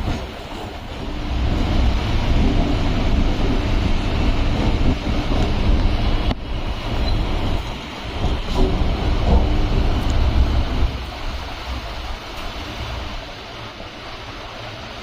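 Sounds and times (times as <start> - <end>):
wind noise on microphone: 0.0 - 13.4
electric train rumbling on track: 0.0 - 15.0.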